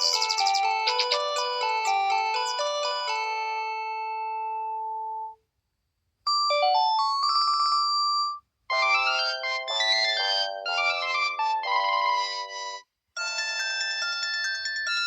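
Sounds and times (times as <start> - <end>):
phone ringtone melodies: 0.0 - 5.4, 6.3 - 15.0.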